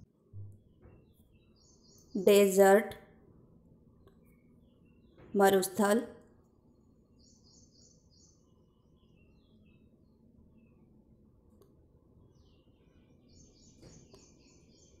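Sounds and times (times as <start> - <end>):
distant birds chirping: 0.3 - 15.0.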